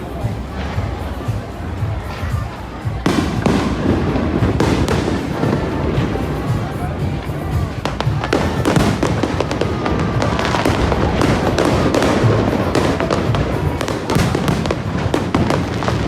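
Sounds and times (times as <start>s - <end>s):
fireworks bangs and crackling pops: 0.0s - 16.0s
music playing: 0.0s - 16.0s.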